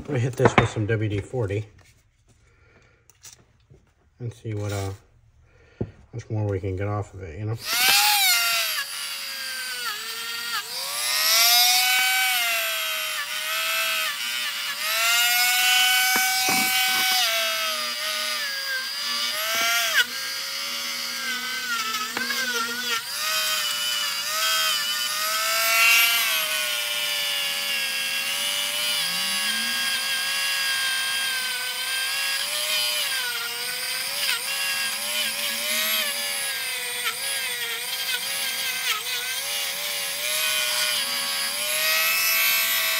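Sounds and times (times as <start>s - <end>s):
rotary tool grinding metal: 4.5s - 5.0s, 7.6s - 42.9s.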